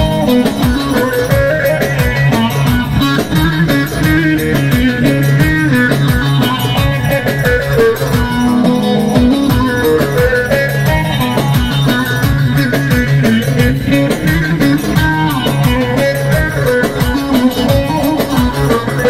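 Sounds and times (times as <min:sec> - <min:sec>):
strummed long-necked lute music: 0:00.0 - 0:19.0.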